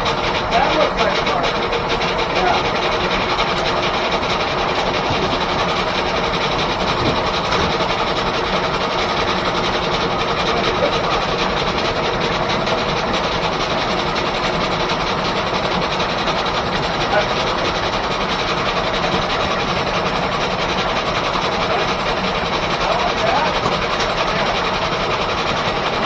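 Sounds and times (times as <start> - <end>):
steam-powered sawmill machinery: 0.0 - 26.0.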